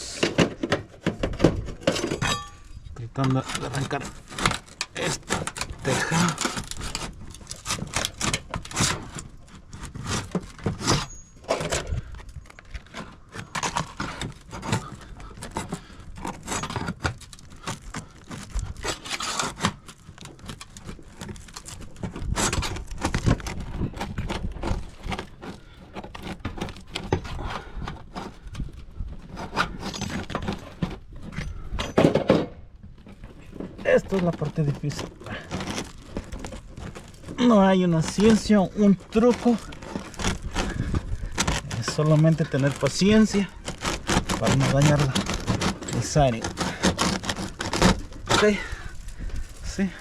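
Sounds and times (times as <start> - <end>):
shingle scraping and tearing: 0.0 - 50.0.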